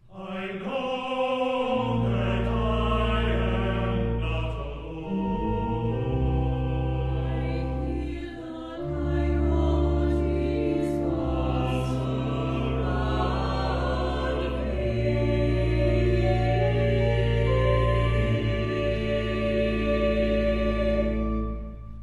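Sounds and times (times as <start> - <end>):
choir singing sustained chords: 0.0 - 22.0
organ bass notes: 1.8 - 8.2, 8.8 - 22.0.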